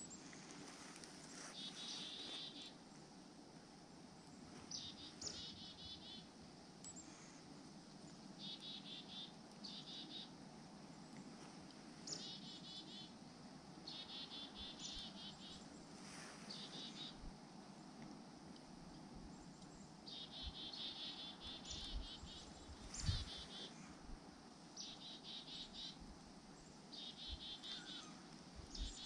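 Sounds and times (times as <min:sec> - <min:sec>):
songbirds calling: 0:00.0 - 0:02.8, 0:04.2 - 0:18.0, 0:19.2 - 0:29.0
low outdoor hiss: 0:00.0 - 0:29.0.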